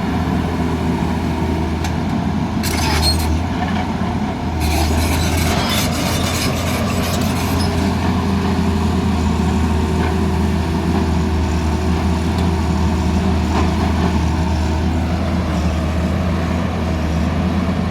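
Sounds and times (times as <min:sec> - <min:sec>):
excavator diesel engine running: 0:00.0 - 0:17.9.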